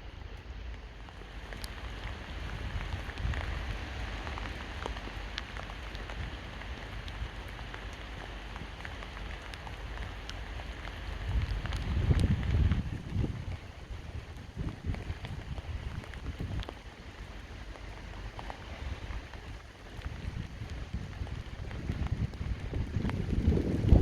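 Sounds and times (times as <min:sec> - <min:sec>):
raindrops ticking on a surface: 0:00.0 - 0:24.0
steady rain falling: 0:00.0 - 0:24.0
wind rumble on microphone: 0:00.0 - 0:24.0.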